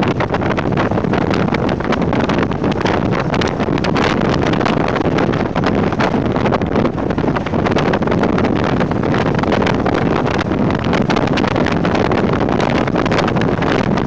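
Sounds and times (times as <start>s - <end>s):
wind buffeting camera: 0.0s - 14.0s.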